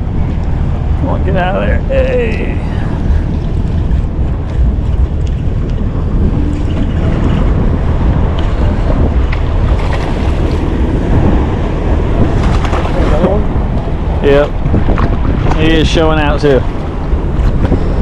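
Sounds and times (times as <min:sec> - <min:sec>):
water around hull: 0:00.0 - 0:18.0
wind buffeting microphone: 0:00.0 - 0:18.0.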